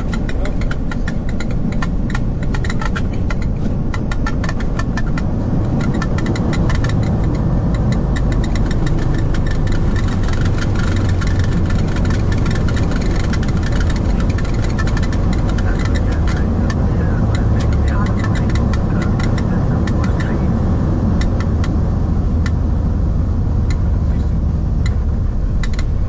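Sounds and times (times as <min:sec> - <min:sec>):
rapid rattling ticks: 0:00.0 - 0:20.5, 0:21.1 - 0:21.8, 0:23.6 - 0:26.0
airliner engines and wheels rumbling: 0:00.0 - 0:26.0.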